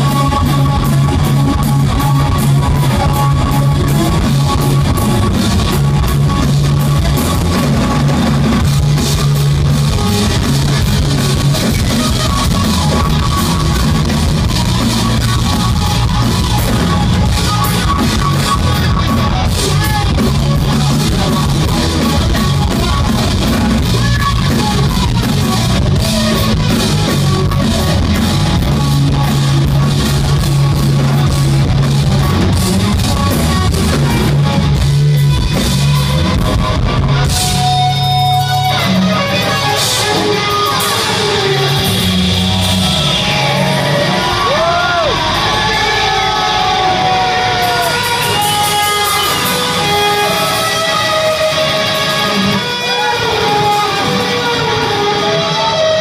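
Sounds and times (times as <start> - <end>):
drum kit: 0.0 - 56.0
electric guitar: 0.0 - 56.0
live rock band playing: 0.0 - 56.0.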